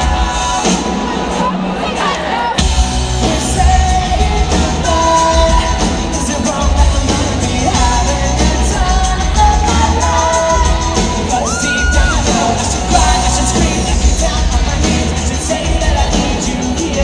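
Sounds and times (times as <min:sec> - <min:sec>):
live pop-rock band: 0:00.0 - 0:17.0
male lead vocal: 0:00.0 - 0:17.0.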